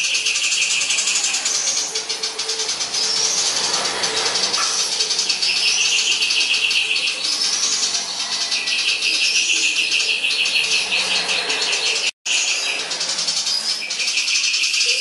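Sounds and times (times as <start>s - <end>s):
bird singing with chattering trills: 0.0s - 15.0s.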